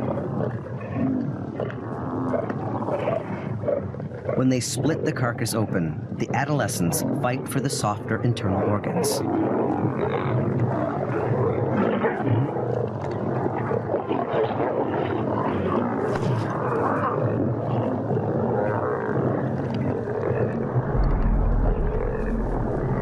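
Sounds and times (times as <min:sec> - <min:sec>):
lions growling and snarling: 0:00.0 - 0:04.9, 0:09.2 - 0:23.0.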